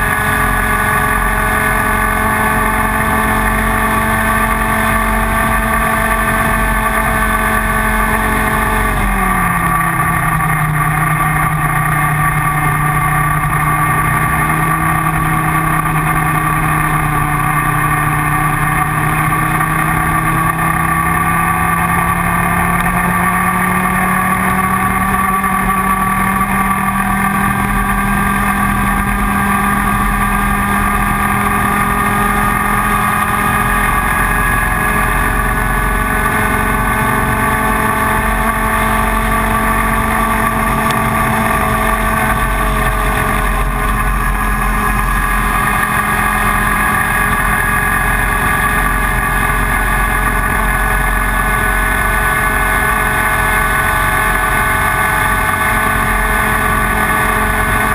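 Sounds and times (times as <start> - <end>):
kart engine running: 0.0 - 57.9.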